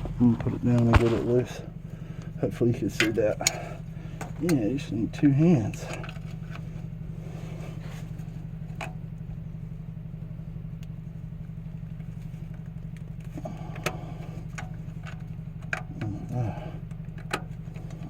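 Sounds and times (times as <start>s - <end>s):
low pulsing hum: 0.0s - 18.0s.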